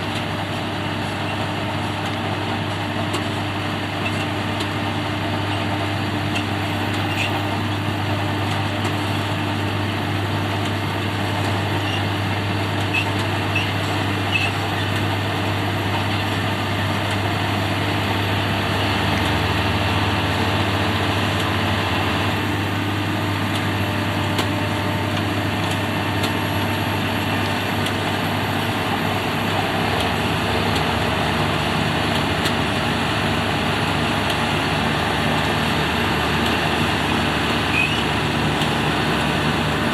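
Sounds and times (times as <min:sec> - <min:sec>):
harvesting machine engine drone: 0:00.0 - 0:39.9.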